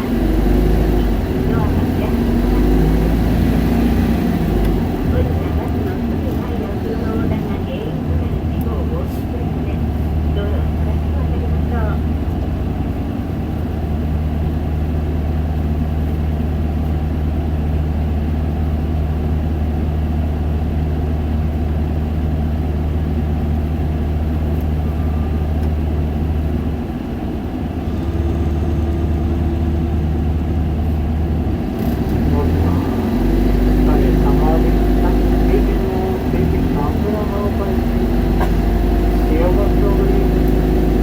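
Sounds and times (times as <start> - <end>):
bus diesel engine running: 0.0 - 41.0.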